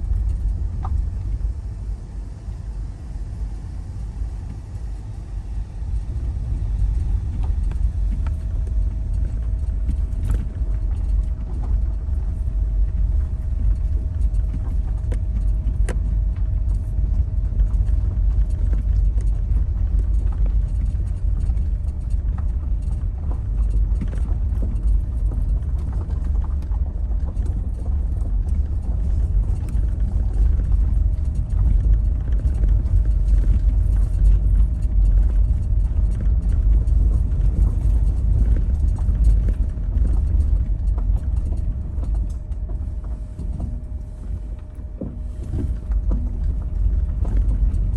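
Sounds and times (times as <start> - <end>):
faint steady whine: 0.0 - 47.9
road and engine rumble: 0.0 - 47.9.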